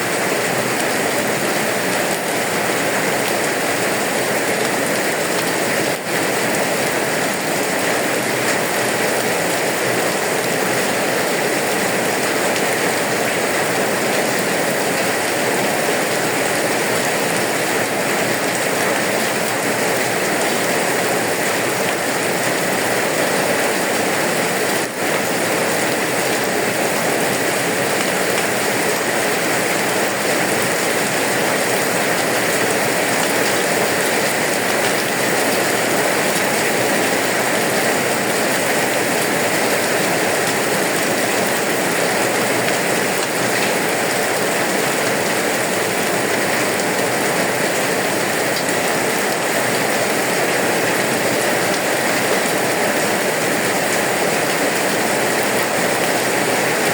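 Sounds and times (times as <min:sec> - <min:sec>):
heavy rainfall: 0:00.0 - 0:56.9.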